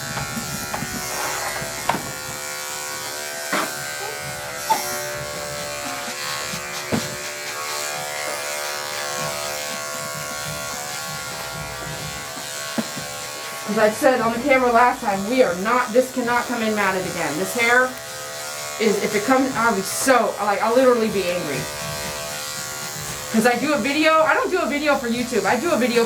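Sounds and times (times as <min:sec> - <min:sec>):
electric clippers buzzing: 0:00.0 - 0:26.0.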